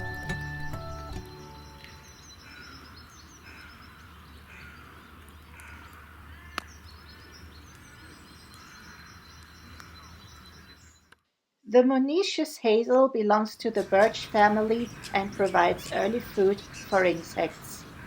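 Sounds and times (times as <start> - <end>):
birds calling: 0.6 - 11.2, 13.6 - 18.0
high bird chirps: 0.6 - 11.2, 13.8 - 18.0.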